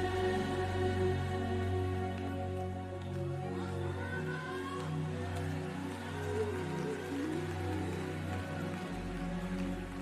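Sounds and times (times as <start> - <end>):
slow soft worship music: 0.0 - 10.0.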